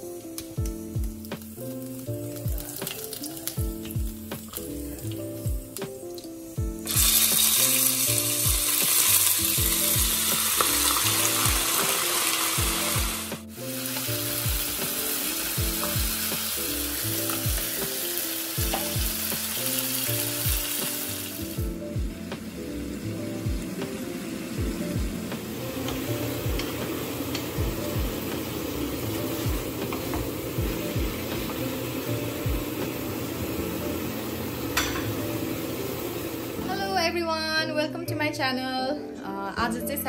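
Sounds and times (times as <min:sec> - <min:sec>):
meat sizzling in hot oil: 0:00.0 - 0:36.7
background music with beat: 0:00.0 - 0:40.0.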